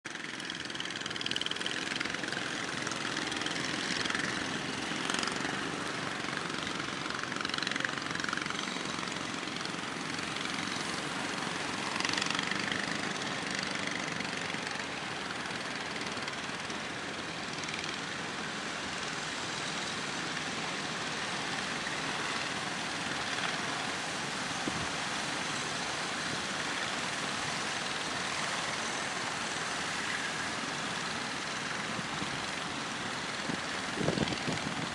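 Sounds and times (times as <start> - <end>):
wind: 0.0 - 34.9
boat engines running: 0.1 - 34.9.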